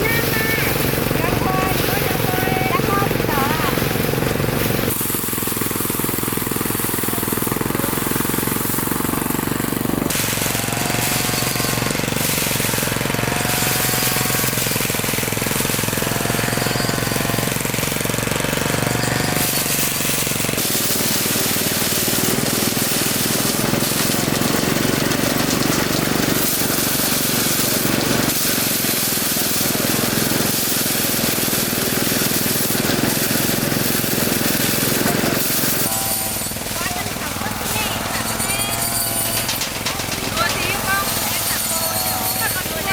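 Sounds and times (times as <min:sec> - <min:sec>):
small engine running: 0:00.0 - 0:42.9.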